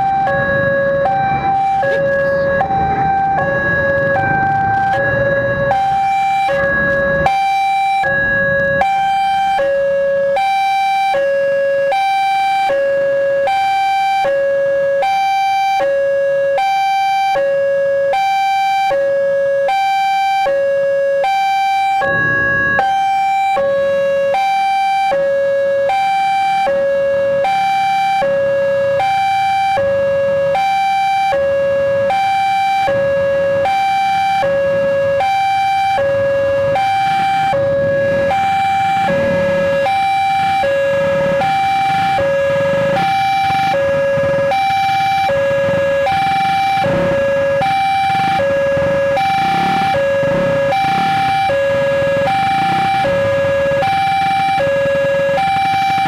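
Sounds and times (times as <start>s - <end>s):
motorbike and traffic engines: 0.0s - 56.0s
two-tone crossing alarm: 0.0s - 56.0s.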